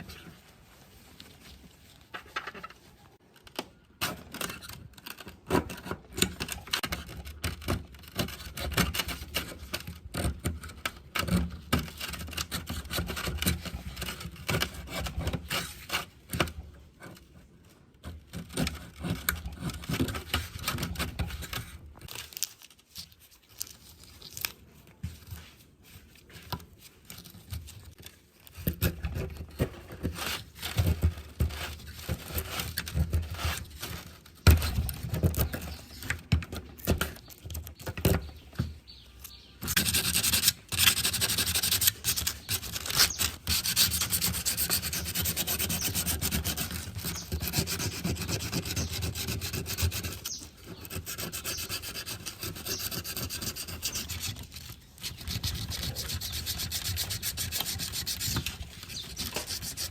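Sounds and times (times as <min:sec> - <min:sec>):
scraping and tearing: 0:00.0 - 0:59.9.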